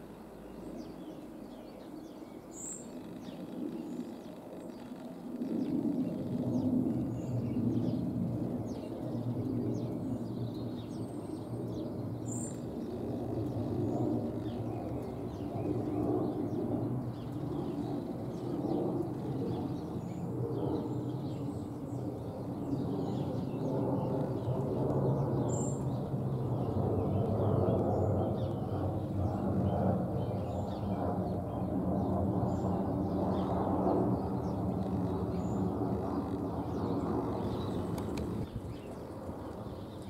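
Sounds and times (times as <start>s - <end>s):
jet engines rumbling overhead: 0.0s - 40.0s
birds chirping: 0.1s - 40.0s.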